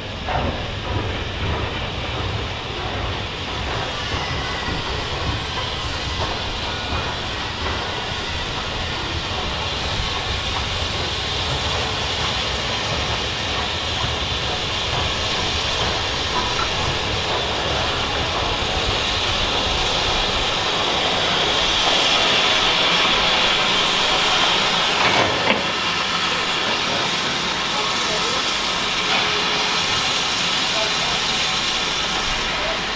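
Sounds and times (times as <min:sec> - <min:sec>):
steam hissing: 0:00.0 - 0:32.9
train wheels rumbling over rail joints: 0:00.0 - 0:32.9.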